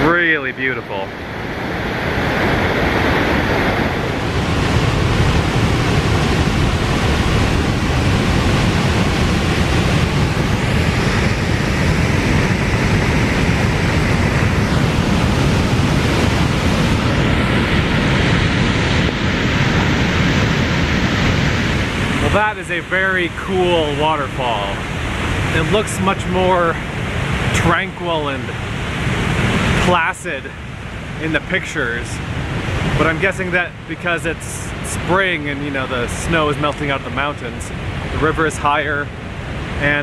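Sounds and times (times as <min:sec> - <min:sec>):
waterfall rushing: 0:00.0 - 0:33.6.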